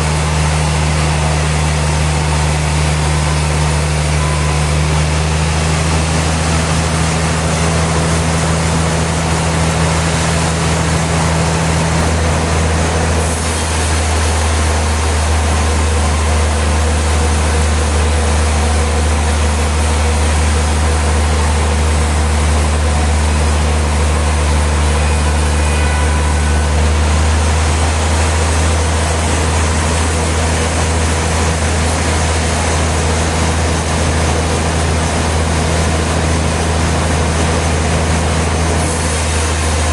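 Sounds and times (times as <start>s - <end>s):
low engine-like hum: 0.0s - 39.9s
sawmill machinery running: 0.0s - 39.9s.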